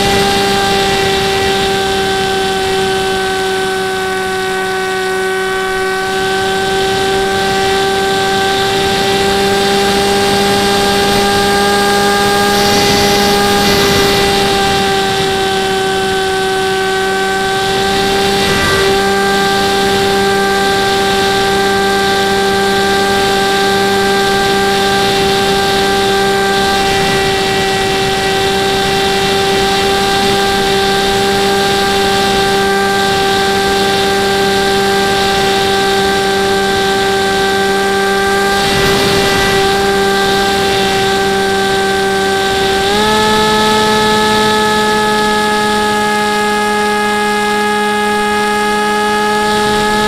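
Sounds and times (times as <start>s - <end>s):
model plane motor whine: 0.0s - 50.0s.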